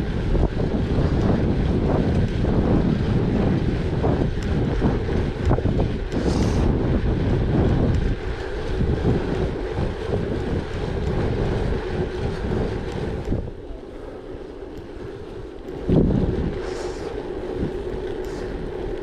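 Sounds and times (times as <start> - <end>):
bike tyres rolling on gravel: 0.0 - 19.0
wind buffeting the microphone: 0.0 - 19.0.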